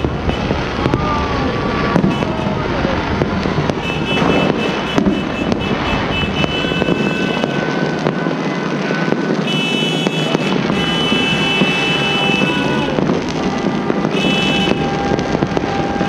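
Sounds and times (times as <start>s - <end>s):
fireworks crackling and banging: 0.0s - 16.0s
high whistling fireworks: 0.0s - 16.0s.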